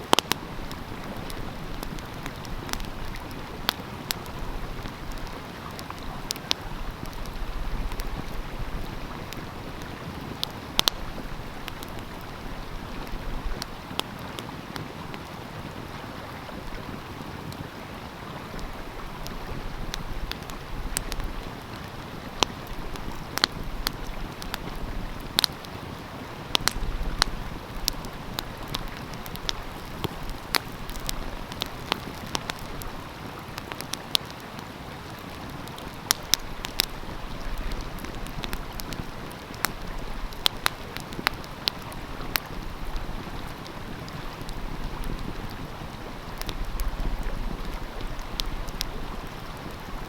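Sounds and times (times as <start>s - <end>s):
stream flowing: 0.0s - 50.0s
wood fire crackling: 0.0s - 50.0s.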